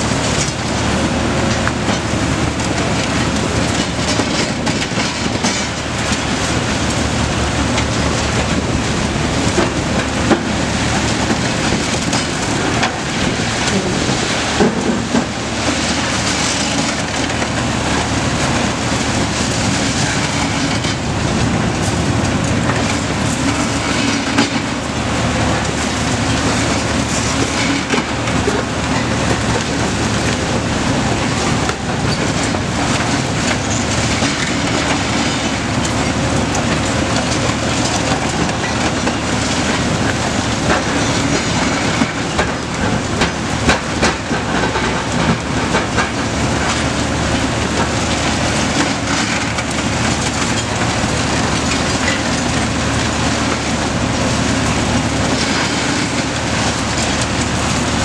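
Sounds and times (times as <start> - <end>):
diesel excavator engines rumbling: 0.0 - 58.0.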